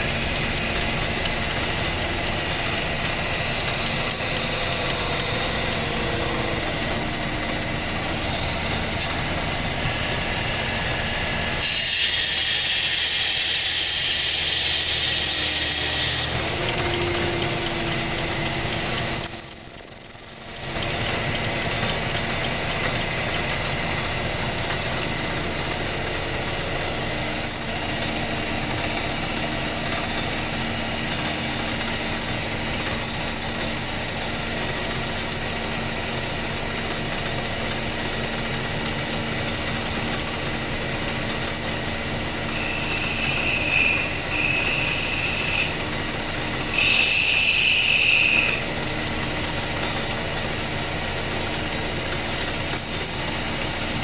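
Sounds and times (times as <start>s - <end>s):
power tool motor running: 0.0s - 54.0s.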